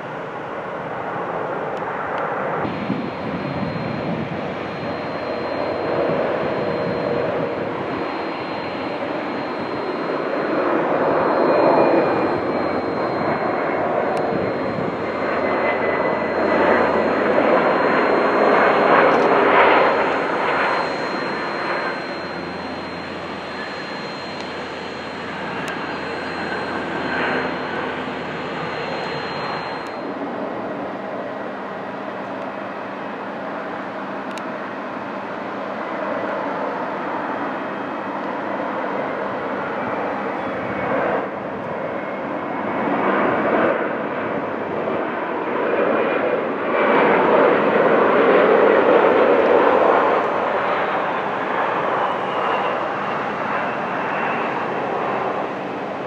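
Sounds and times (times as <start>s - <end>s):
jet engines landing: 0.0s - 56.0s
steady high whine: 0.0s - 56.0s.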